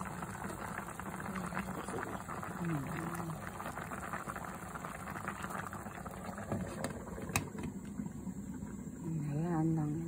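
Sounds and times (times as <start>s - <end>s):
soup bubbling at a boil: 0.0s - 10.0s.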